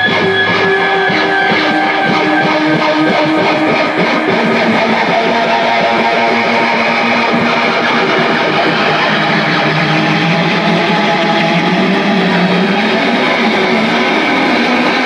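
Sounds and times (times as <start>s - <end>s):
rock band playing live: 0.0s - 15.0s
strummed electric guitar: 0.0s - 15.0s.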